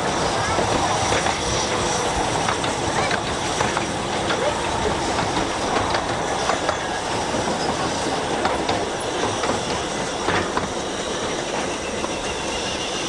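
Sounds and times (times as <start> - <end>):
wheels clicking over rail joints: 0.0 - 12.5
railway carriage wheel rumble: 0.0 - 13.0.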